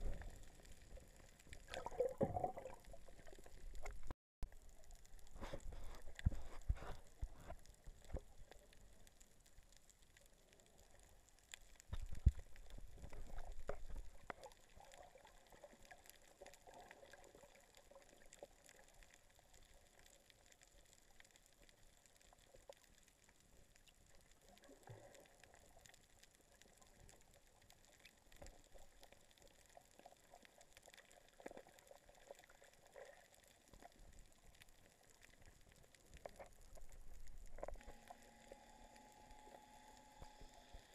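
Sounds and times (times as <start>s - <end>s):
underwater bubbling and crackling: 0.0s - 40.9s
small ticks: 3.4s - 40.9s.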